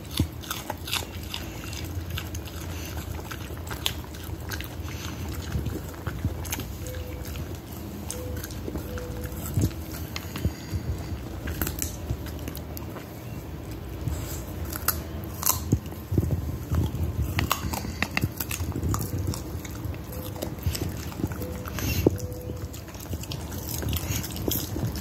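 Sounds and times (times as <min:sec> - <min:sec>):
dog chewing carrot: 0:00.0 - 0:25.0.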